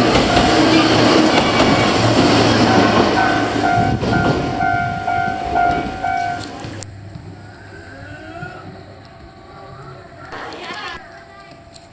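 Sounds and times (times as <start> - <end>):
level-crossing warning bell: 0.0 - 7.0, 8.9 - 11.9
passing train rumble: 0.0 - 11.9.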